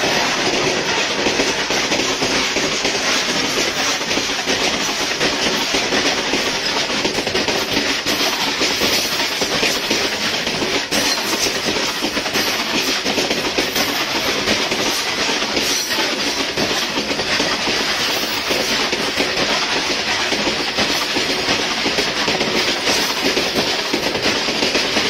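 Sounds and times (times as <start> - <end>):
freight train wagons rumbling: 0.0 - 25.0
wheels clattering over rails: 0.0 - 25.0.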